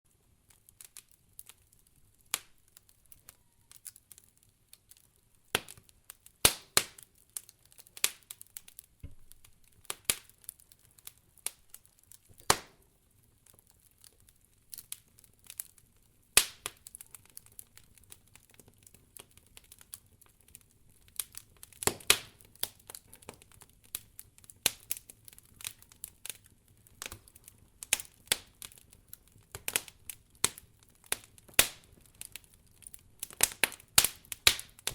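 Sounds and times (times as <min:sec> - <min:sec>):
fire crackling and popping: 0:00.1 - 0:34.9.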